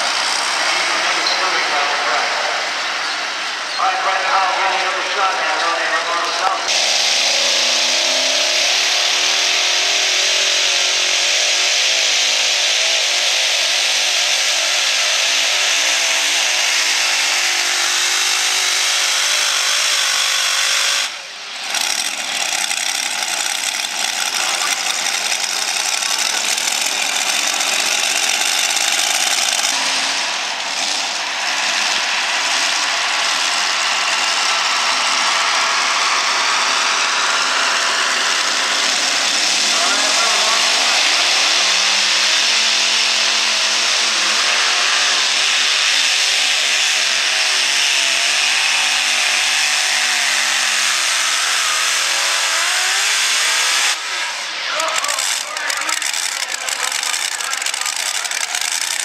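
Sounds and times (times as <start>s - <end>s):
tractor engines at full throttle: 0.0s - 59.0s.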